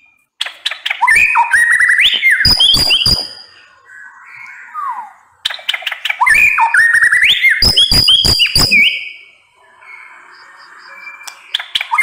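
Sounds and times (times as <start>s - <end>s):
bird singing whistled song: 0.0s - 12.0s.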